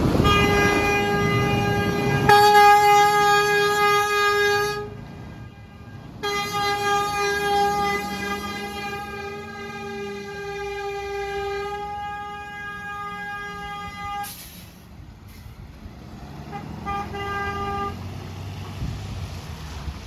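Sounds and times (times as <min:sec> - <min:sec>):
low traffic rumble: 0:00.0 - 0:20.0
truck horn blowing: 0:00.1 - 0:14.6, 0:16.4 - 0:18.2.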